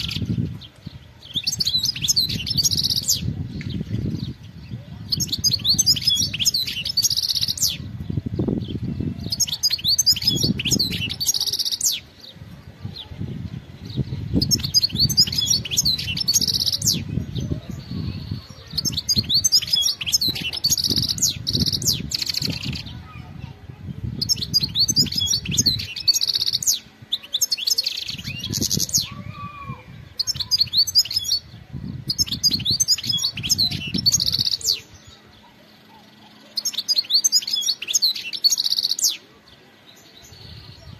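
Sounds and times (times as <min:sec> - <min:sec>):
goldfinch twittering song: 0:00.0 - 0:23.2, 0:24.2 - 0:40.9.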